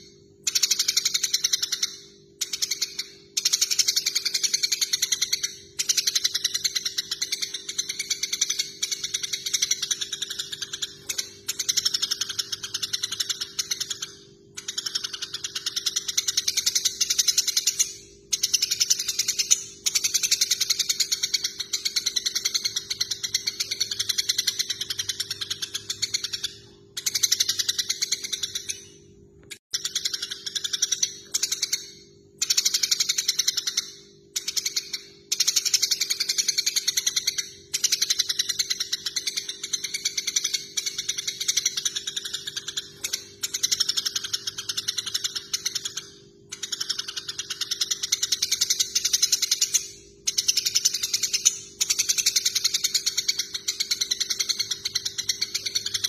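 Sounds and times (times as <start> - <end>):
sparrows chirping: 0.0 - 31.8, 34.4 - 56.0.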